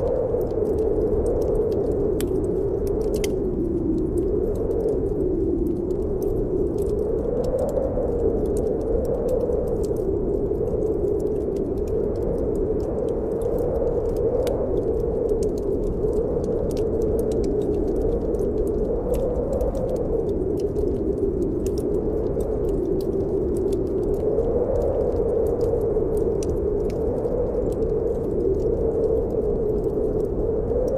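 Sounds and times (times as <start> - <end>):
wind howling: 0.0 - 30.9
wood fire crackling and popping: 0.0 - 30.9.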